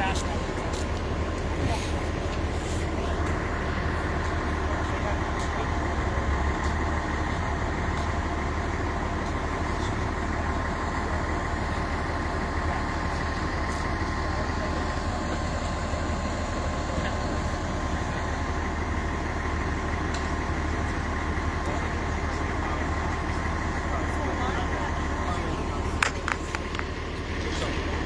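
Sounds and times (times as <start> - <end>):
heavy vehicle engine idling: 0.0 - 28.0.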